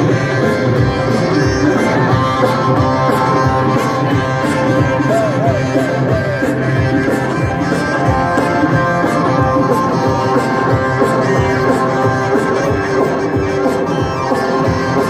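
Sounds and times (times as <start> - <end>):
electric guitar: 0.0 - 15.0
live rock band: 0.0 - 15.0.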